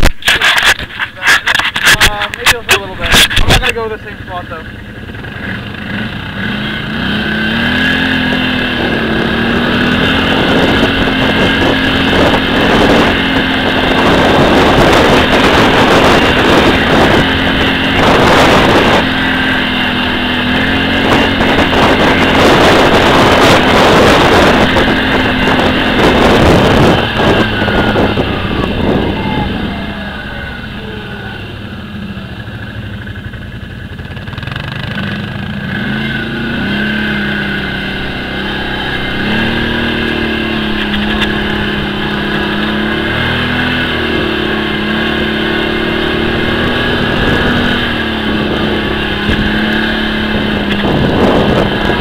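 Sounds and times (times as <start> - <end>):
wind noise on microphone: 0.0 - 3.8, 7.2 - 32.0, 34.9 - 52.0
atv engine running: 0.0 - 52.0.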